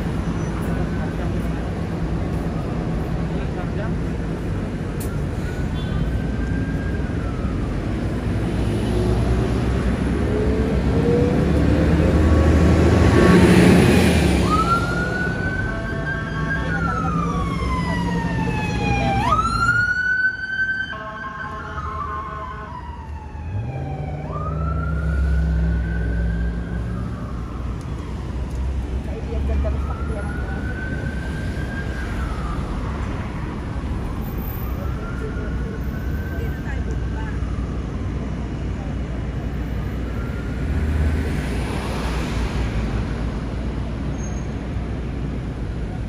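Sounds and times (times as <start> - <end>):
street traffic: 0.0 - 46.0
emergency siren wailing: 4.2 - 38.5, 39.4 - 42.3.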